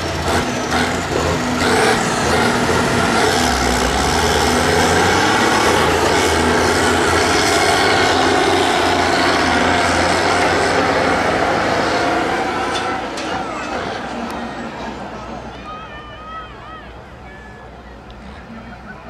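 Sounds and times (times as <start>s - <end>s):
tractor diesel engine under load: 0.0s - 15.6s.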